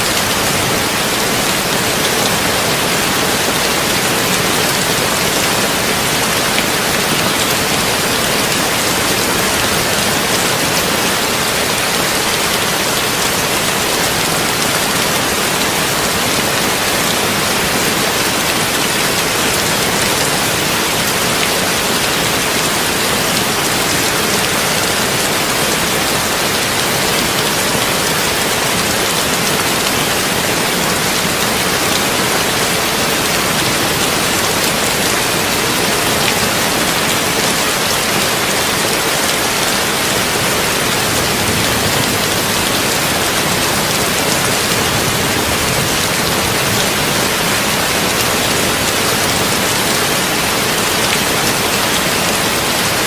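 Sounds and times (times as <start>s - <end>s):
heavy rain on a tin roof: 0.0s - 53.0s.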